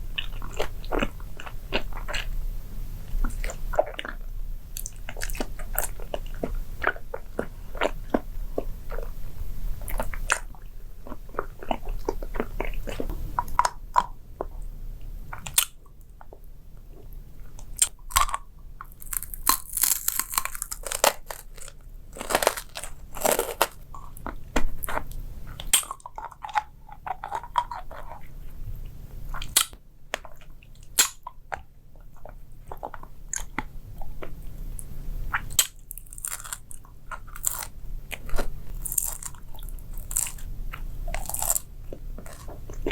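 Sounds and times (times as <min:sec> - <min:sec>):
crisp food being chewed: 0:00.0 - 0:02.4, 0:03.0 - 0:42.9.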